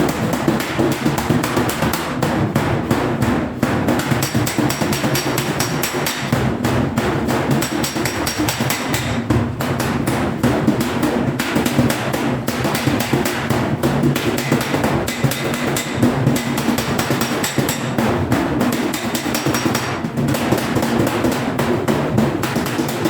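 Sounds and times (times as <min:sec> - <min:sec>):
hammer striking sheet steel: 0:00.0 - 0:23.0.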